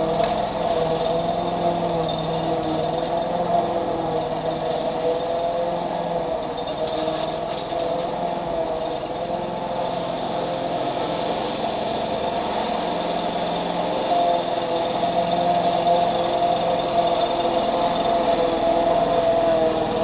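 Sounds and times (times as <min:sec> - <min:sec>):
petrol lawn mower running: 0:00.0 - 0:20.0.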